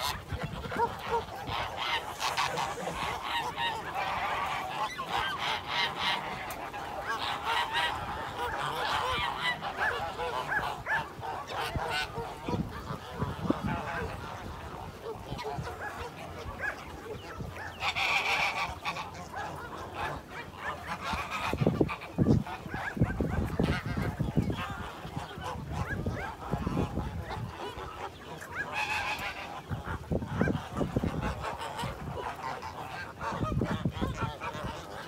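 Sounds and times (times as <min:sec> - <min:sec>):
chorus of animal calls: 0:00.0 - 0:35.0.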